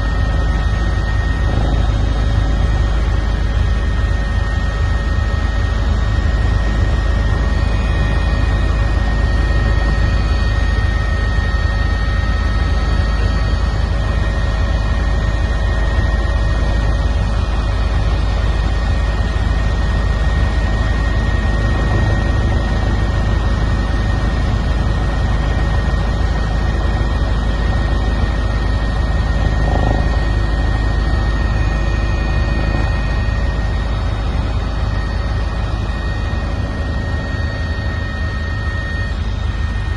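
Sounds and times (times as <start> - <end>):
helicopter rotor drone: 0.0 - 39.9
high turbine whine: 0.0 - 39.9.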